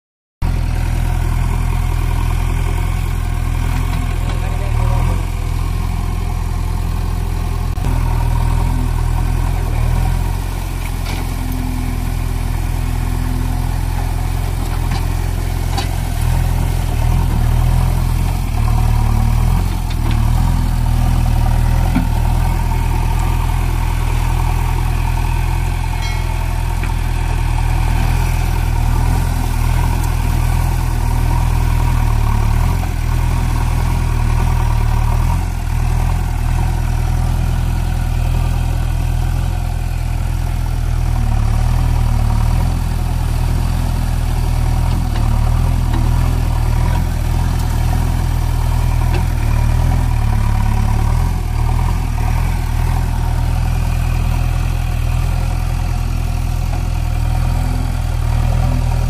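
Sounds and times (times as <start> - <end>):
diesel engine idling: 0.4 - 59.0.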